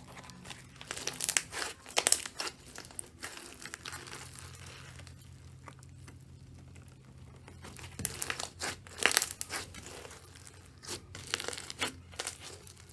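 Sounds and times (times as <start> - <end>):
low steady hum: 0.0 - 12.9
slime crackling and popping: 0.0 - 12.9.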